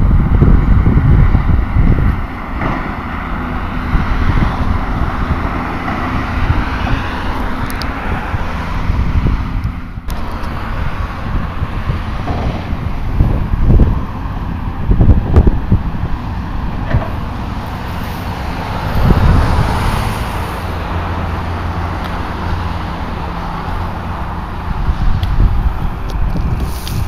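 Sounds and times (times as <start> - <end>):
heavy diesel machinery rumbling: 0.0 - 27.0
passing road traffic: 0.0 - 27.0
wind buffeting the microphone: 0.0 - 27.0.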